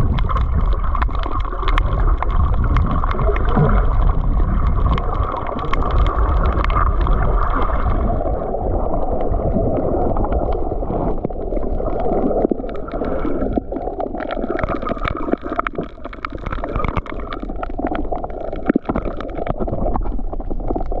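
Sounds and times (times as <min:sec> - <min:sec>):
sharp clicks and crackles: 0:00.0 - 0:21.0
underwater sloshing and gurgling: 0:00.0 - 0:21.0.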